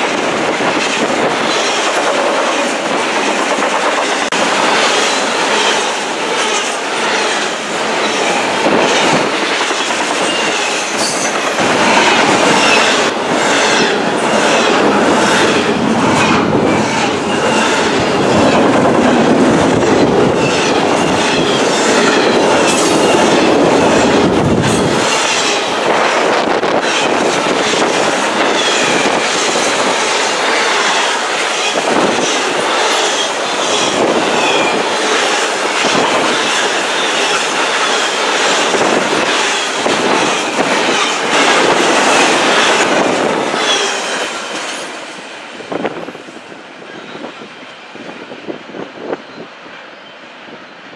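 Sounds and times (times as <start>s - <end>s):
steel wheels clattering over rails: 0.0s - 46.0s
freight train rolling rumble: 0.0s - 50.9s.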